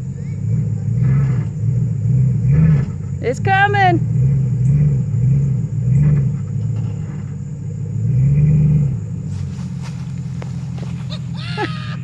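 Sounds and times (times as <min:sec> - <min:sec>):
truck engine revving under load: 0:00.0 - 0:12.0.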